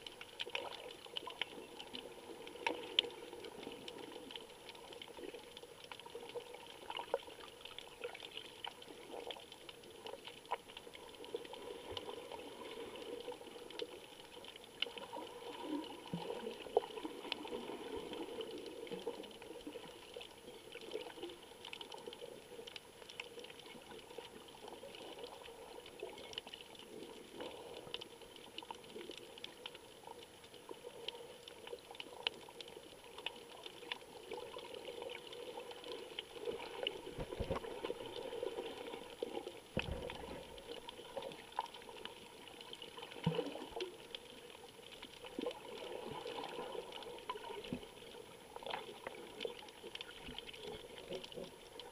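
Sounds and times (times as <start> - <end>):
muffled underwater rush: 0.0 - 51.9
small irregular clicks: 0.0 - 51.9.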